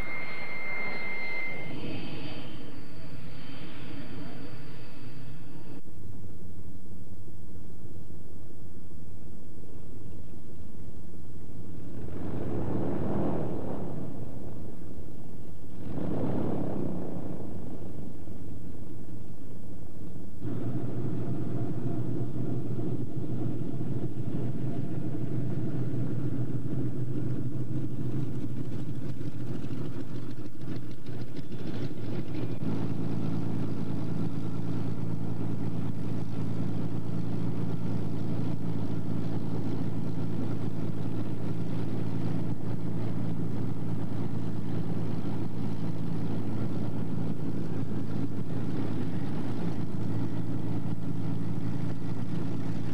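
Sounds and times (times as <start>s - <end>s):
biplane engine taxiing: 0.0s - 6.5s, 8.8s - 52.9s
propeller engine idling: 8.9s - 52.9s.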